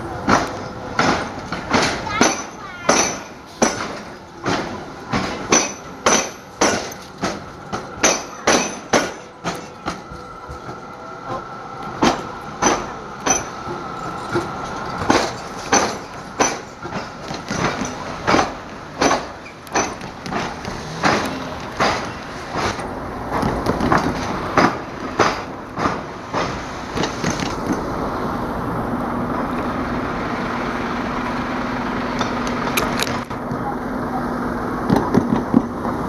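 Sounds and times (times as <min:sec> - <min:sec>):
rail wheels banging over crossing: 0:00.0 - 0:36.0.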